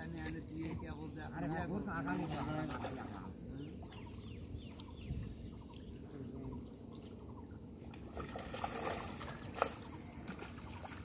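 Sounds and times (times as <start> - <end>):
water sloshing and splashing: 1.8 - 11.0.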